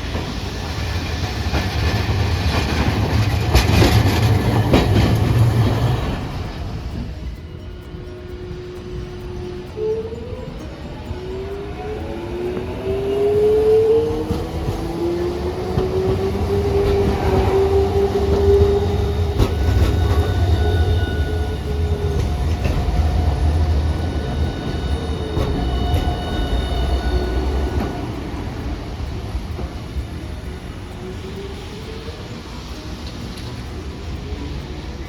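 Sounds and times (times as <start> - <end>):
thin high tones: 0.0 - 35.0
wheels rumbling on rail: 0.0 - 35.0.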